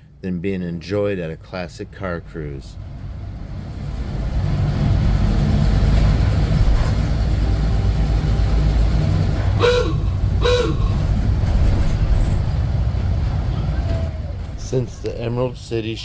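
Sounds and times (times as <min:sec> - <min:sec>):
bus engine running: 0:01.2 - 0:16.0.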